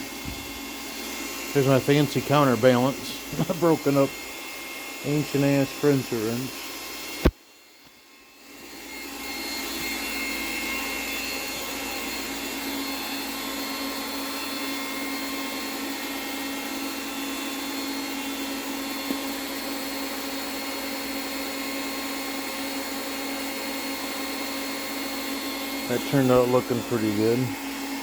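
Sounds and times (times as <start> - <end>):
electric motor tool hissing and humming: 0.0 - 28.0.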